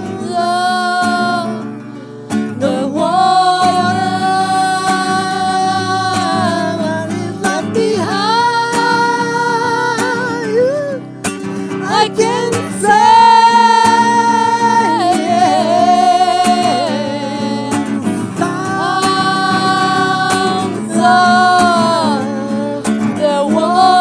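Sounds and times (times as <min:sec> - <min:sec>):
plucked acoustic guitar: 0:00.0 - 0:24.0
person singing long notes: 0:02.6 - 0:11.0, 0:11.8 - 0:24.0.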